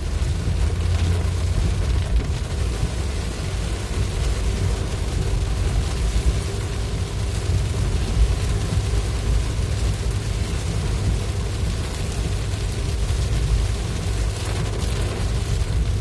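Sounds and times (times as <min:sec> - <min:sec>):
heavy rain: 0:00.0 - 0:16.0
vehicle driving rumble: 0:00.0 - 0:16.0.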